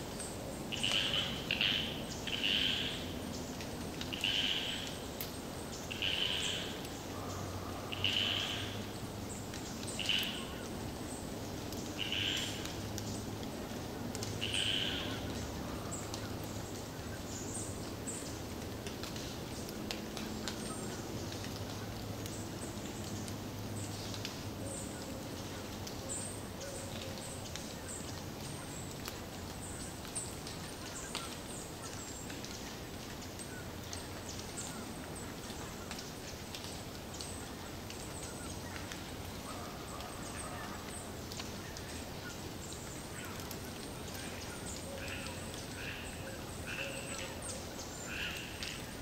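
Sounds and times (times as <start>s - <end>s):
steady background hiss: 0.0s - 49.0s
bird chirps and clicks: 0.8s - 49.0s.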